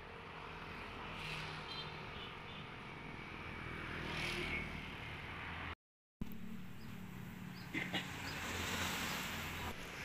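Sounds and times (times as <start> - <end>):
passing vehicles: 0.0 - 10.0.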